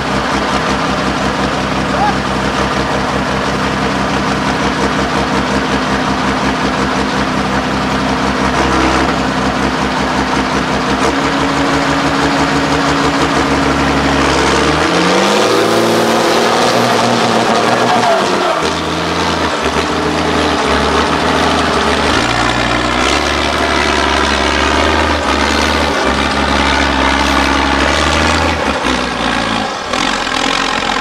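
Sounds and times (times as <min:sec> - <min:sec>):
diesel truck engine revving: 0:00.0 - 0:31.0.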